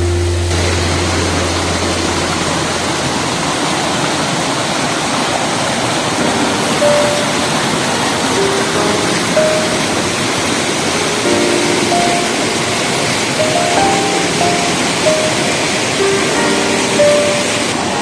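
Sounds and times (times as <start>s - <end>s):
waterfall rushing over rocks: 0.0s - 18.0s.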